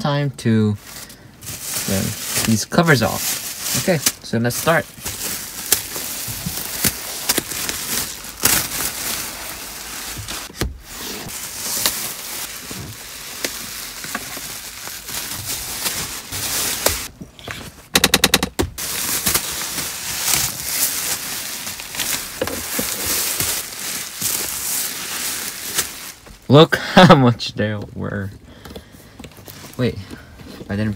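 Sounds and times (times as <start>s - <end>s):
plastic covers crinkling: 0.8s - 17.9s, 18.8s - 27.2s.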